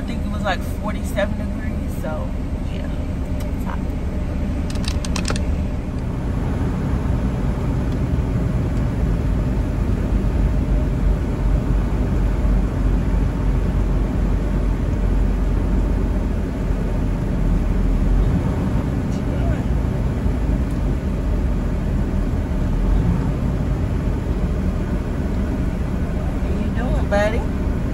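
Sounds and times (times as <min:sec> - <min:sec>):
truck engine rumbling: 0:00.0 - 0:27.9.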